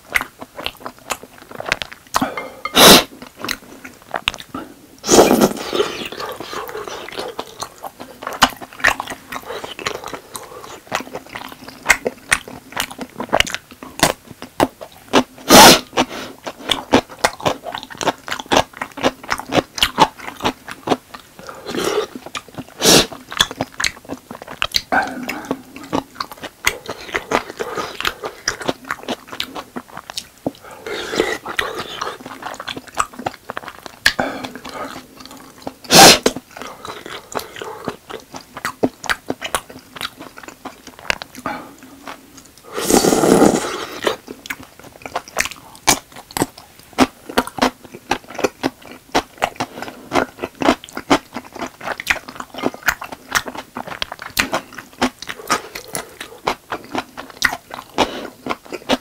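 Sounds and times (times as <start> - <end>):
wet chewing clicks and smacks: 0.0 - 2.3, 6.1 - 15.3, 15.9 - 21.5, 22.1 - 30.6, 31.2 - 42.6, 44.0 - 59.0.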